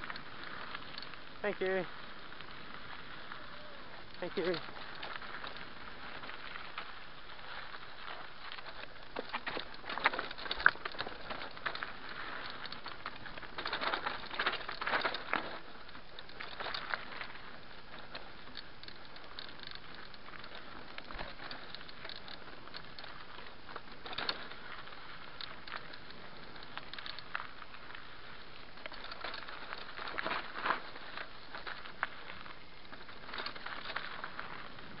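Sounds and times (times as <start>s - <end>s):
bike rattling and knocking: 0.0s - 3.4s, 4.0s - 35.0s
bike tyres crunching over rocks: 0.0s - 35.0s.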